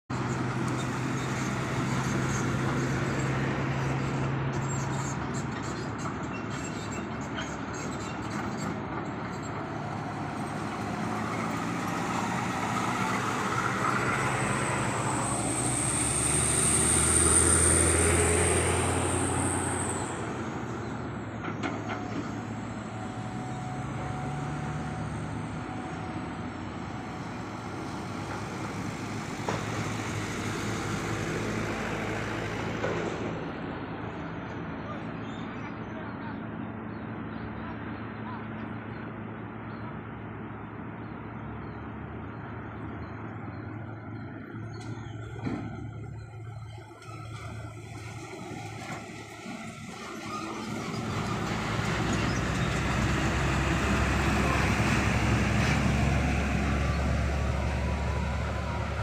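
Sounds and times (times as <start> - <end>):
heavy machinery engine hum: 0.1 - 59.0.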